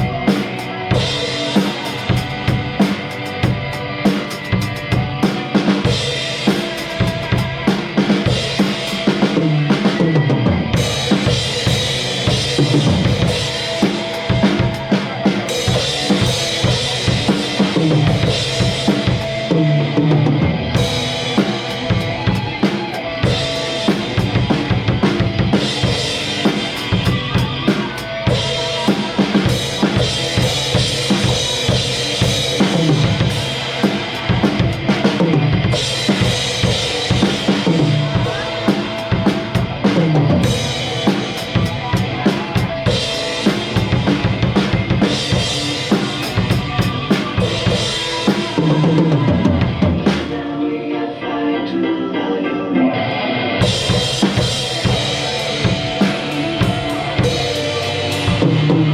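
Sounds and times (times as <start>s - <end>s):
rock drum kit: 0.0s - 50.5s, 53.4s - 58.9s
bass guitar: 0.0s - 50.6s, 52.9s - 58.9s
other instruments: 0.0s - 51.2s, 52.9s - 58.9s.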